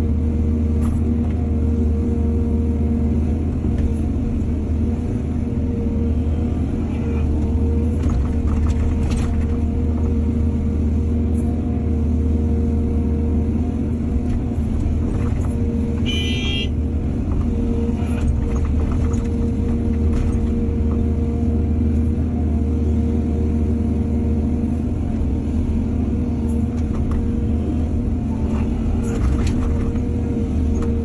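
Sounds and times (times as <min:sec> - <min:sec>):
diesel engine rumbling: 0:00.0 - 0:31.0.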